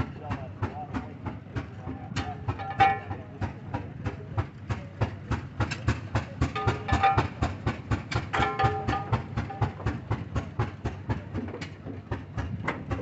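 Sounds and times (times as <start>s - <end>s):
engine exhaust popping: 0.0s - 13.0s.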